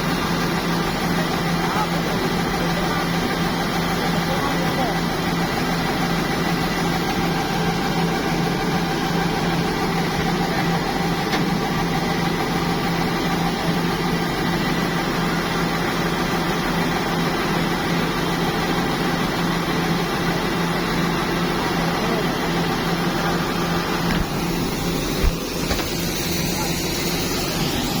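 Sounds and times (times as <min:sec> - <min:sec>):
harvesting machine engine droning: 0:00.0 - 0:28.0.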